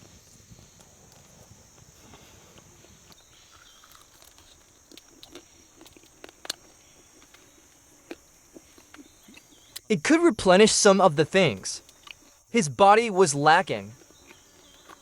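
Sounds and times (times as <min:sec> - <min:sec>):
faint campfire crackling: 0:00.0 - 0:15.0
jungle insects droning: 0:00.0 - 0:15.0.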